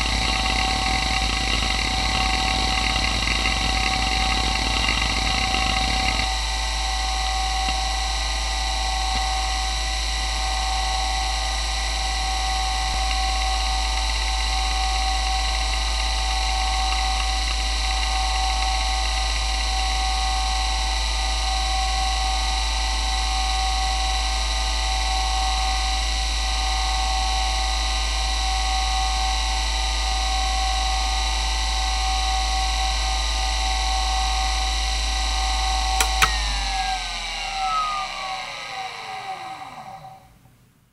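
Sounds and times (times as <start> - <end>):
hard drive whining and humming: 0.0 - 40.8.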